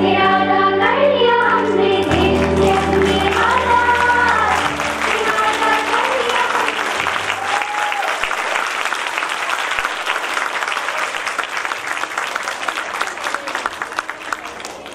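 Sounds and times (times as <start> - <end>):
audience applauding: 2.0 - 14.9.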